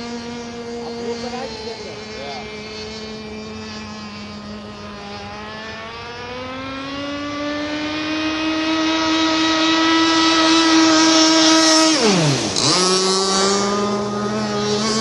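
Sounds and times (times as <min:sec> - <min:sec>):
model boat motor passing: 0:00.0 - 0:15.0.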